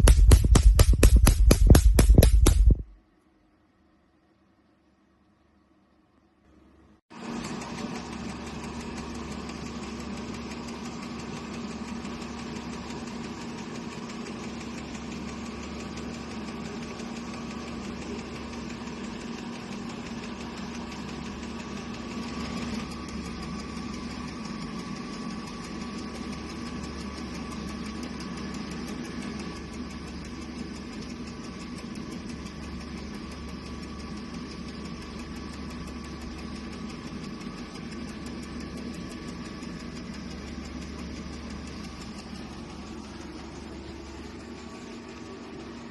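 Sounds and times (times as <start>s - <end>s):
machine humming: 0.0s - 3.0s, 6.5s - 45.9s.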